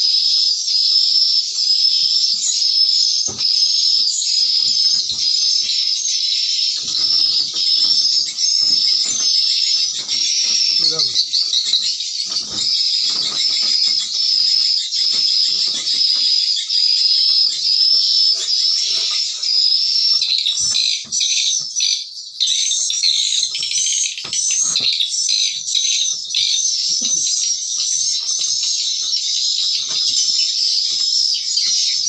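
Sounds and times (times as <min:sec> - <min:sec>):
recorded bird chirps through speakers: 0:00.0 - 0:32.0.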